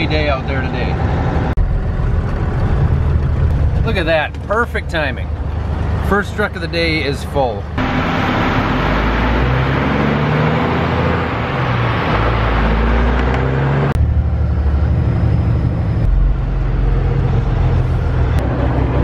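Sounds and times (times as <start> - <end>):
truck diesel engine rumble: 0.0 - 19.0.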